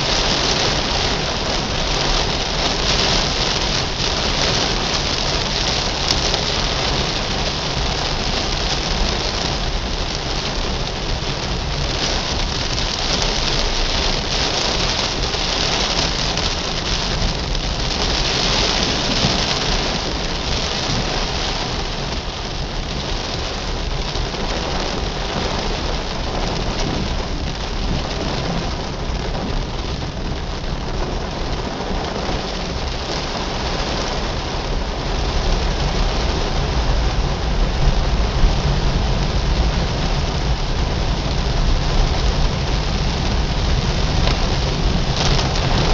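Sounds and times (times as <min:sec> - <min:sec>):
car driving on wet road: 0:00.0 - 0:45.9
rain on car roof: 0:00.0 - 0:45.9.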